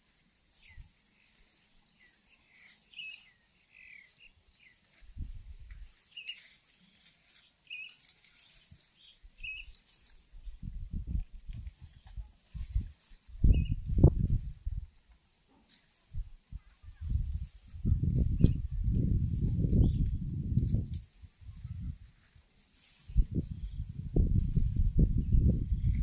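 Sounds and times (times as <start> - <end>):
small birds chirping: 0.5 - 14.8, 15.5 - 26.0.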